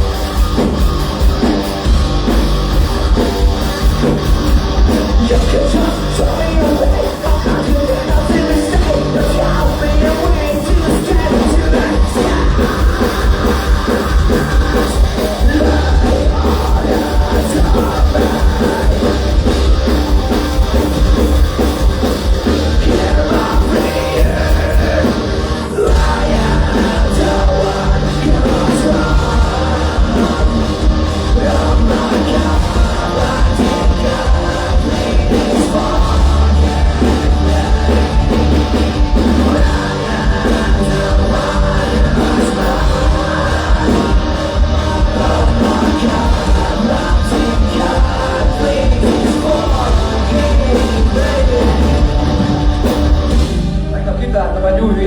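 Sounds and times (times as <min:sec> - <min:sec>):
live rock band playing: 0:00.0 - 0:55.0
sung or shouted vocals: 0:00.0 - 0:55.0.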